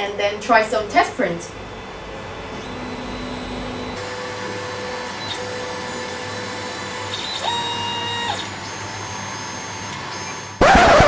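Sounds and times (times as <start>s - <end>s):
steady low hum: 0.0s - 11.0s
stepper motors whining: 0.8s - 11.0s.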